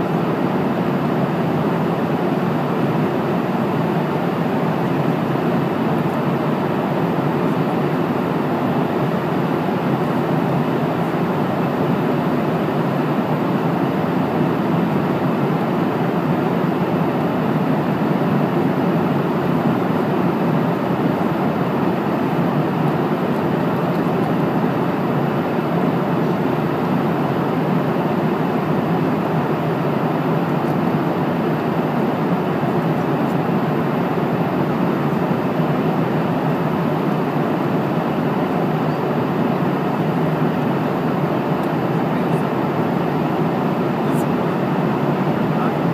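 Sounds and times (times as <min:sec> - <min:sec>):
airplane cabin engine rush: 0:00.0 - 0:45.9.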